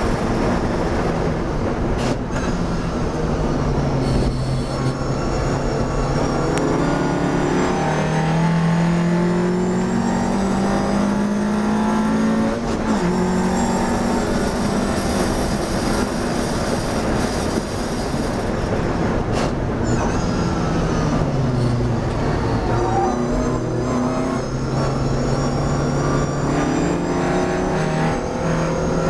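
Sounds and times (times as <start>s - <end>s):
racing car engine revving: 1.9s - 18.5s, 19.4s - 29.0s.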